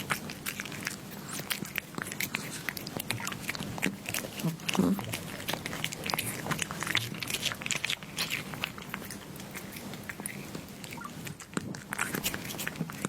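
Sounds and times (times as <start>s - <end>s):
cat chewing crunchy food: 0.0s - 13.0s.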